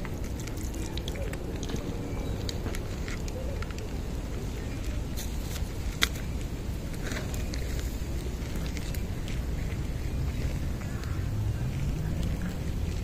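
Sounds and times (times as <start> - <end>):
cats crunching dry kibble: 0.0 - 13.0
steady low rumble: 0.0 - 13.0.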